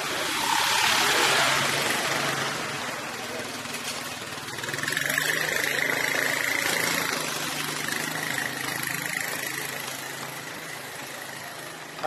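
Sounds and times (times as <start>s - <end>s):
scooter engine humming: 0.0s - 12.0s.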